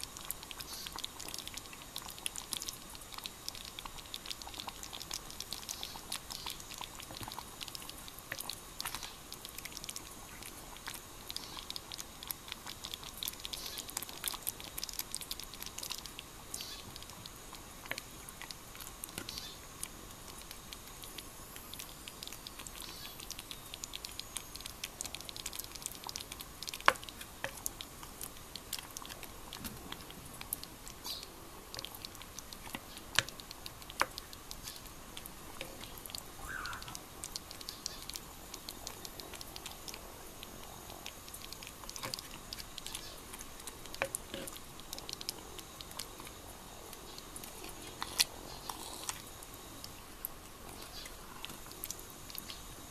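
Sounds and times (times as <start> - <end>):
stew simmering with pops: 0.0 - 52.9.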